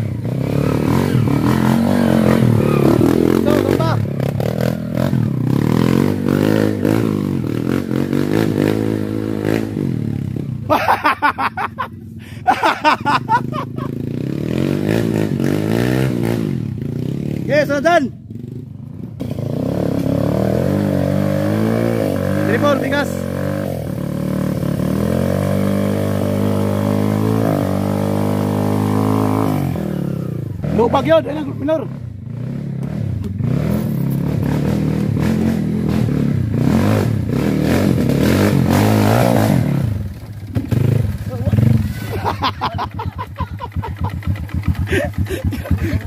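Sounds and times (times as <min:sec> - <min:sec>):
motorcycle engine revving: 0:00.0 - 0:11.0, 0:12.5 - 0:46.0.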